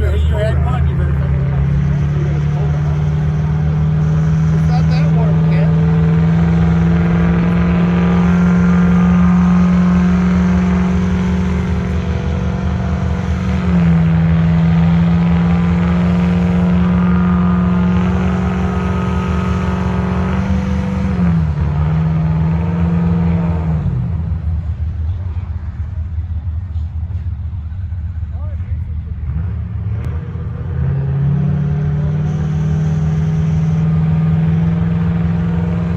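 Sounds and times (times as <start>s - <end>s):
diesel truck engine at high revs: 0.0s - 35.9s.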